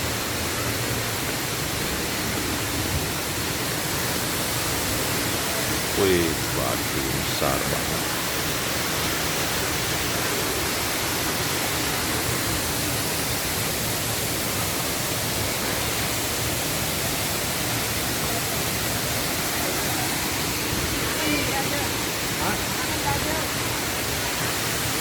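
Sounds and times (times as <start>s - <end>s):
waterfall roaring: 0.0s - 25.0s.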